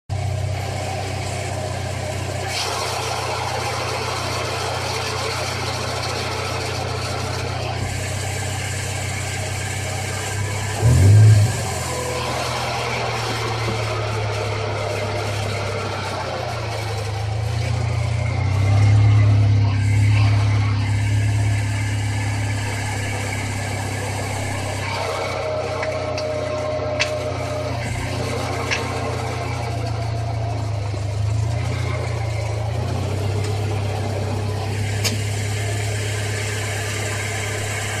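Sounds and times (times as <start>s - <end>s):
car engine idling: 0.0s - 38.0s
clutch bearing grinding: 0.1s - 38.0s.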